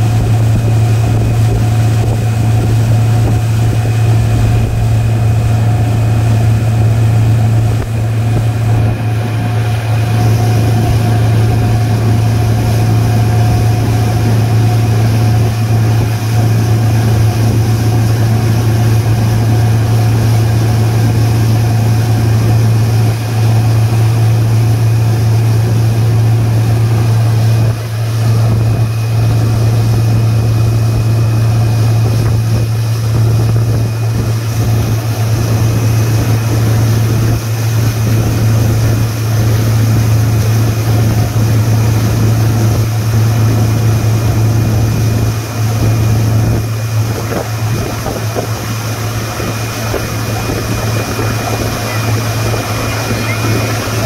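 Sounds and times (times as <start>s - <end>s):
hiss of boat wake: 0.0s - 54.0s
motorboat engine drone: 0.0s - 54.0s
wind: 0.0s - 54.0s.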